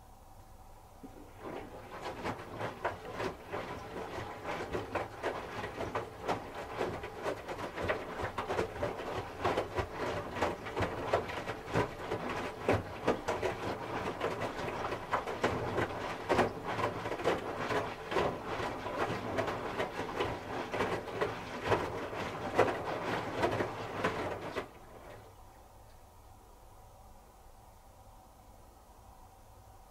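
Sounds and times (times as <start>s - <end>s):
clothes sloshing in drum: 1.0s - 25.4s
washing machine motor hum: 1.0s - 25.7s.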